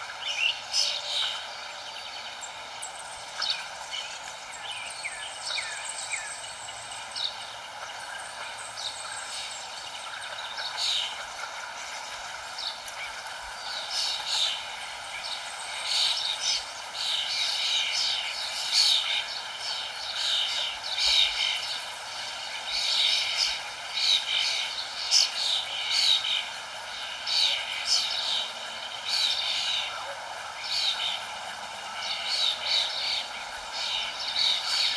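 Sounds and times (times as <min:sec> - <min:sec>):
songbirds chirping: 0:00.0 - 0:34.9
steady hiss: 0:00.0 - 0:34.9.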